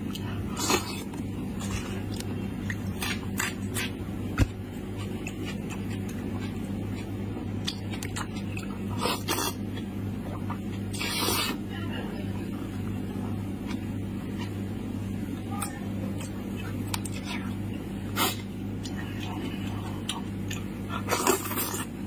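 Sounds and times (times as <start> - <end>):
person chewing with wet smacks: 0.0 - 11.6, 13.6 - 14.7, 15.5 - 22.0
steady low hum: 0.0 - 22.0.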